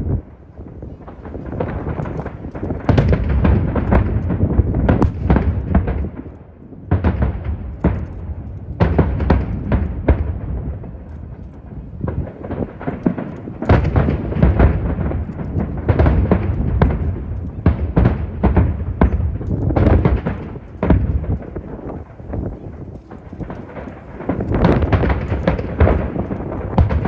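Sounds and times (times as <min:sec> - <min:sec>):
low rumble of booms: 0:00.0 - 0:27.0
wind on microphone: 0:00.0 - 0:27.0
firework shell bursts and cracks: 0:01.0 - 0:27.0.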